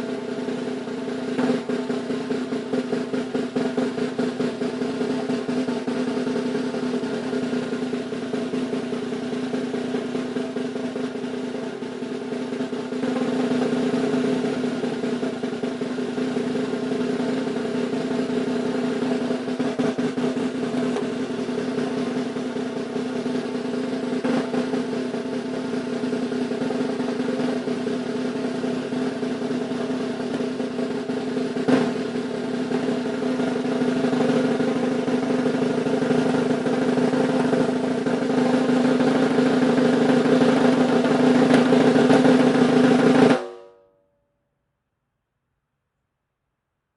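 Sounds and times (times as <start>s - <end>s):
snare drum roll: 1.3s - 11.8s, 12.5s - 43.6s.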